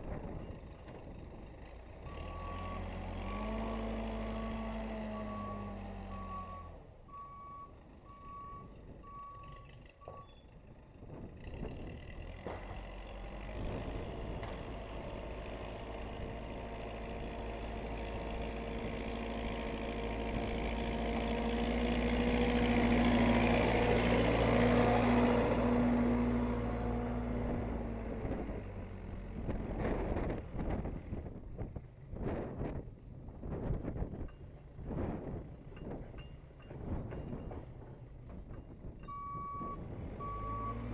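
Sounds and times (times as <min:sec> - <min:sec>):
backhoe engine: 0:00.0 - 0:40.9.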